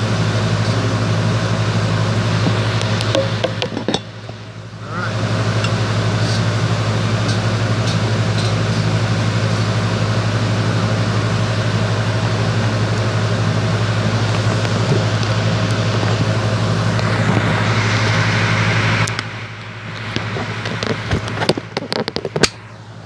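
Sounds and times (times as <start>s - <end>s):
machine hum with low drone: 0.0s - 23.0s.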